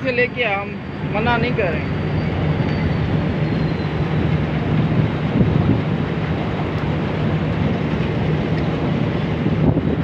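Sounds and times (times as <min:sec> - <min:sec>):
water splashing: 0:00.0 - 0:10.0
wind on microphone: 0:01.0 - 0:10.0.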